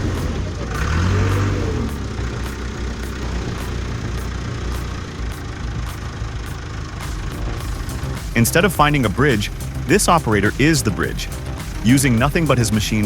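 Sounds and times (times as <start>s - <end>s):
heavy machine engine revving: 0.0s - 13.0s.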